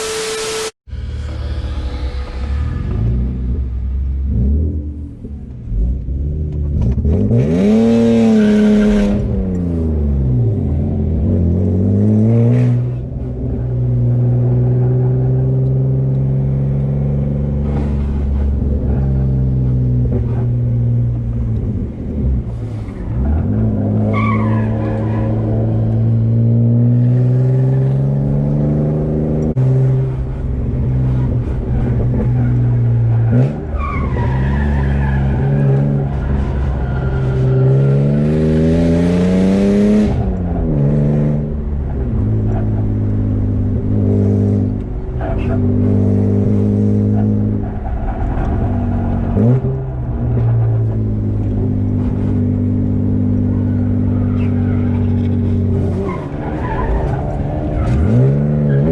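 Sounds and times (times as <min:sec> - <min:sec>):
car engine revving through gears: 0:00.0 - 0:58.9.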